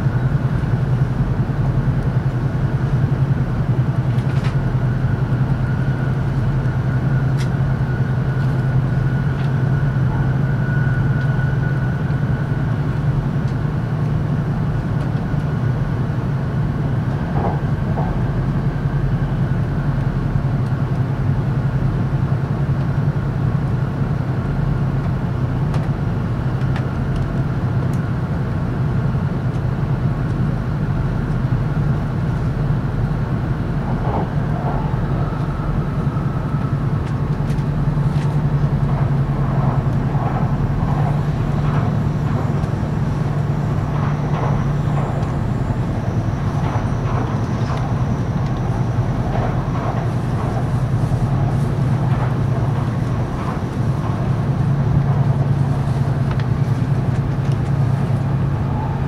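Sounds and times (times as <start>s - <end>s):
train cabin running rumble: 0.0s - 59.0s.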